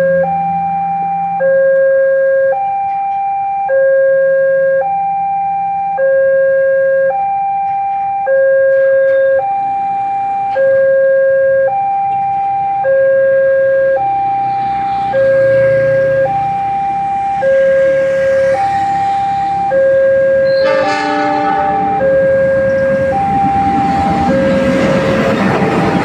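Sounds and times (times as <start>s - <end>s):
two-tone crossing alarm: 0.0s - 26.0s.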